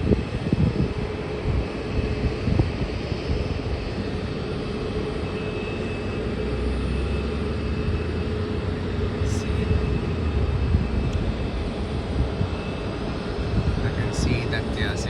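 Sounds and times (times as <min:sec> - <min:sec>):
jet engines running steadily: 0:00.0 - 0:15.0.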